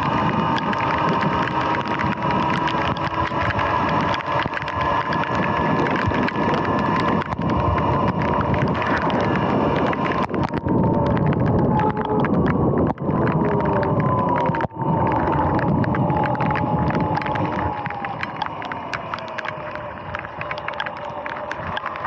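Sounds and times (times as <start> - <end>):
electric motor whine: 0.0 - 22.0
heavy rain: 0.0 - 22.0.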